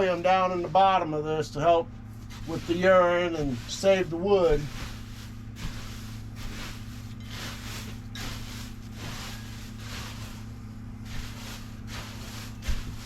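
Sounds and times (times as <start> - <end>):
steady low hum: 0.0 - 13.0
wood shavings rustling: 0.0 - 13.0.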